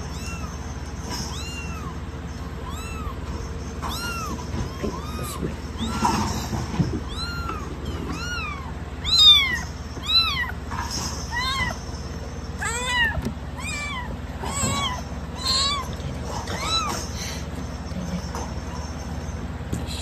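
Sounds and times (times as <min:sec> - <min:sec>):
kitten mewing: 0:00.0 - 0:11.8, 0:12.6 - 0:19.1.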